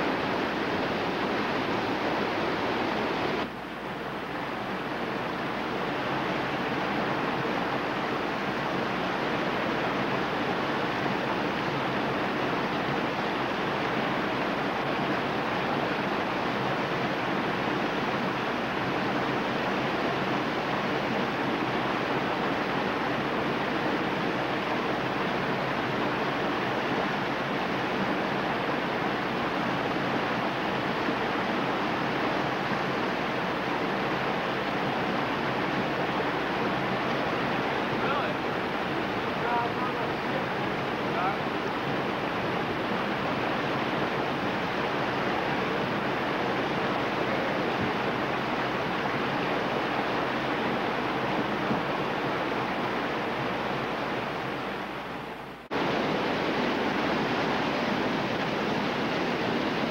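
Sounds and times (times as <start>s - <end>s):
water rushing over creek drop: 0.0s - 59.9s.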